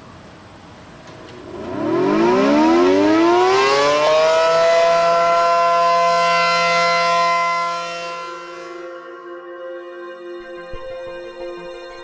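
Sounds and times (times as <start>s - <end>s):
warning siren wailing: 1.4s - 12.0s.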